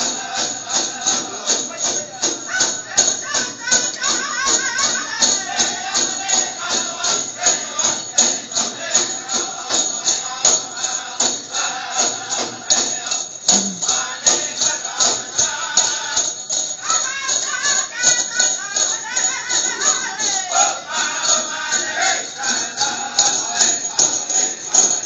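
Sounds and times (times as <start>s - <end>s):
bells jingling: 0.0s - 25.0s
fast steady drumbeat: 0.0s - 25.0s
high singing: 0.0s - 25.0s.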